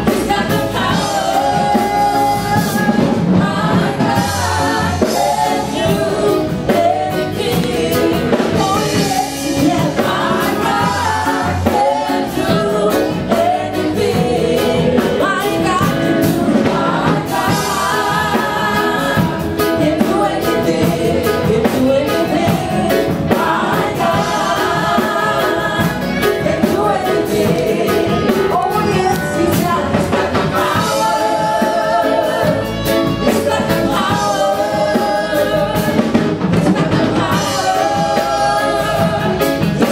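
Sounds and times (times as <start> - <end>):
choir singing: 0.0 - 39.9
gospel band playing: 0.0 - 39.9
steady drum beat: 0.0 - 39.9.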